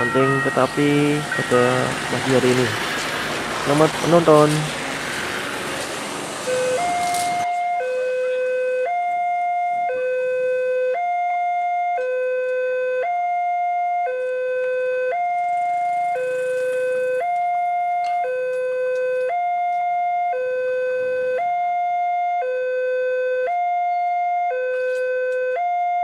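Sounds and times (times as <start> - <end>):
level crossing two-tone alarm: 0.0 - 4.8, 6.4 - 26.0.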